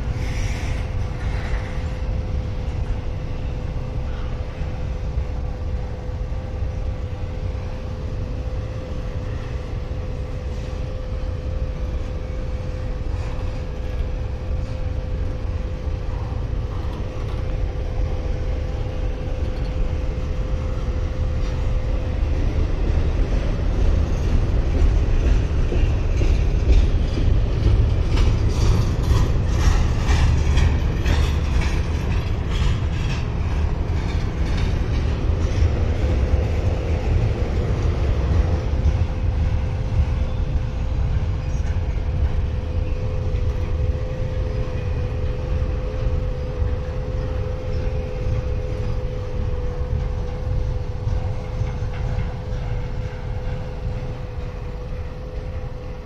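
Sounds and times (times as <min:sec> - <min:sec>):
faint steady whine: 0:00.0 - 0:56.0
train cars clicking and clanking: 0:00.0 - 0:56.0
train wheels rumbling on rails: 0:00.0 - 0:56.0.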